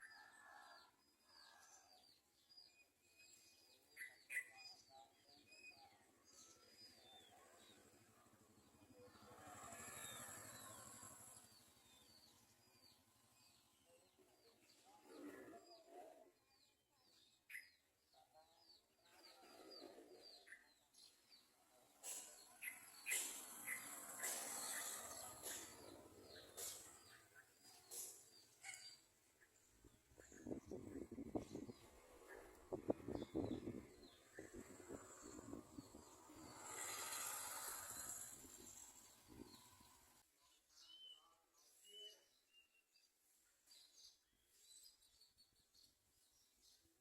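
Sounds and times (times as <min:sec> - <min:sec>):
bird chirping: 0:01.5 - 0:47.0.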